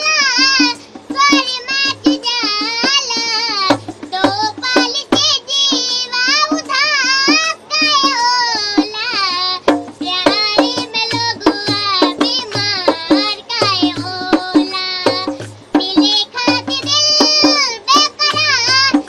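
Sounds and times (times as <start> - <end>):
girl singing in a high voice: 0.0 - 19.0
percussion beat: 0.0 - 19.0.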